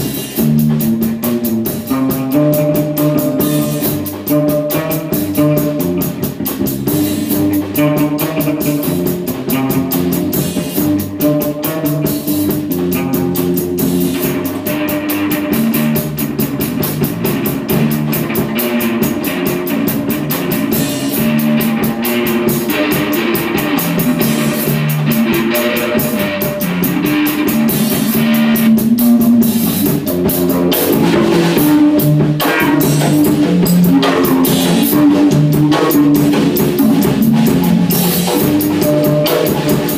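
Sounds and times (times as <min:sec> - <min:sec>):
drum kit beat with cymbals: 0:00.0 - 0:39.9
electric bass line: 0:00.0 - 0:39.9.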